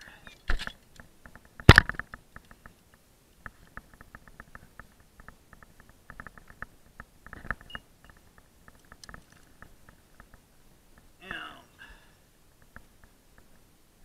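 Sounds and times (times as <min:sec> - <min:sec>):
rope and gloves rustling: 0:00.0 - 0:11.6.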